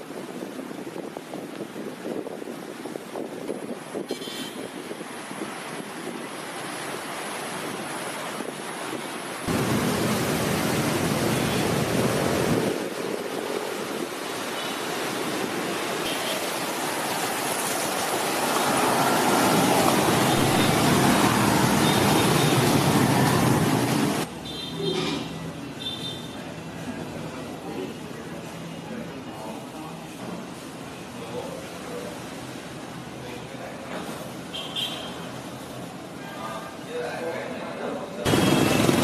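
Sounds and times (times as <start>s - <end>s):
traffic noise: 0.0s - 39.0s.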